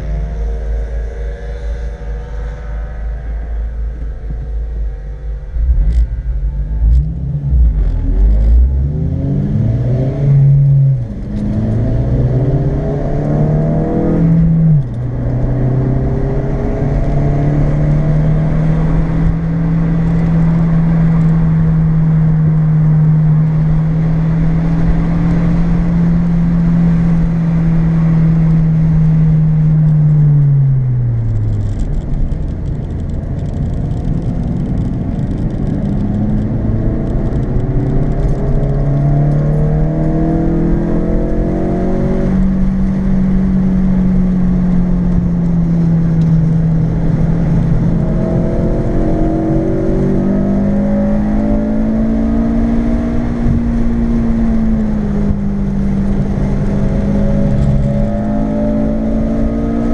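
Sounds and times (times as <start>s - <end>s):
car engine accelerating: 0.0s - 59.9s
tyre and road noise: 0.0s - 59.9s.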